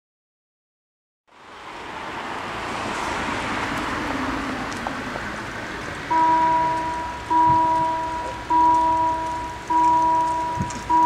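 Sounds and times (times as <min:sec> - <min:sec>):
road traffic noise: 0:01.3 - 0:11.0.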